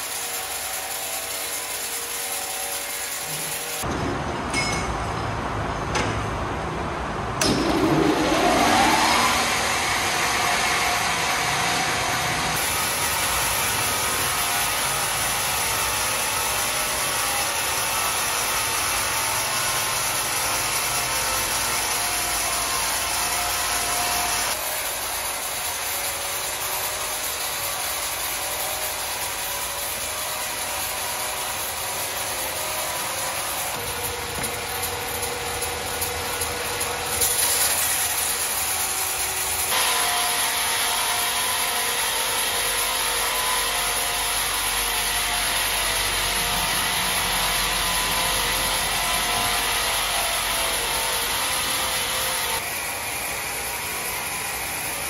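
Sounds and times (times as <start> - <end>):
sawmill machinery running: 0.0 - 3.9, 5.2 - 55.0.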